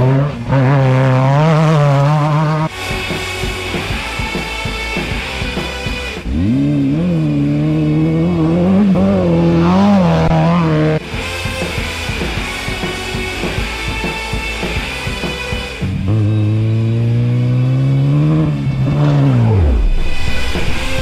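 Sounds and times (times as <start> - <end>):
music: 0.0 - 21.0
race vehicle engine revving: 0.0 - 21.0.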